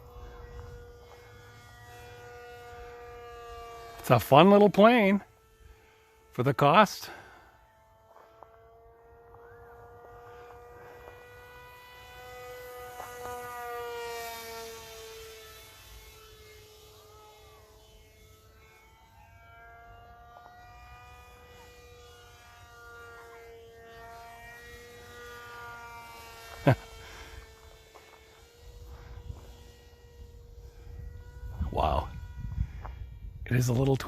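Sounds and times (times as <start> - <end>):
model plane motor whine: 0.0 - 34.0.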